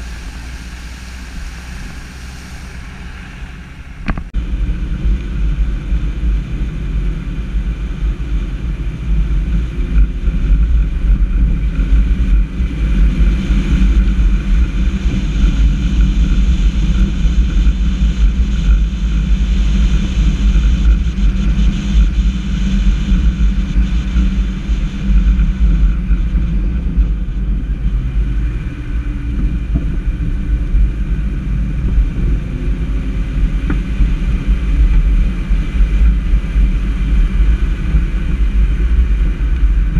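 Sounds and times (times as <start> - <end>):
vehicle driving rumble: 0.0 - 39.9
wind on microphone: 0.0 - 39.9.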